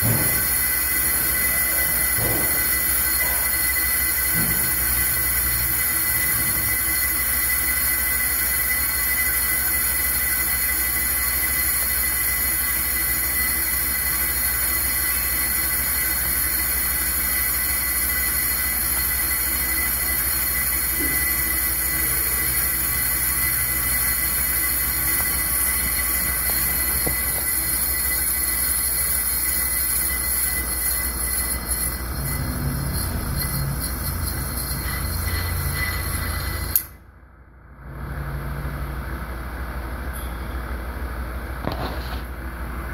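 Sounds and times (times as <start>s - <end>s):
high-pitched cutting squeal: 0.0s - 37.0s.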